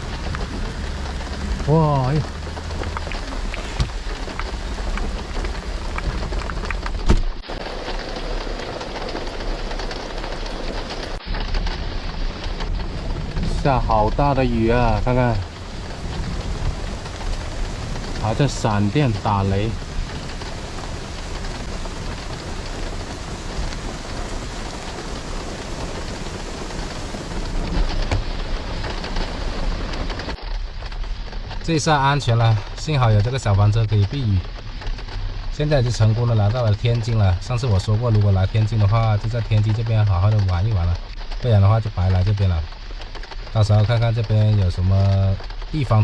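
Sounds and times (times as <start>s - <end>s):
heavy rain falling: 0.0s - 46.0s
raindrops ticking on a surface: 0.0s - 46.0s.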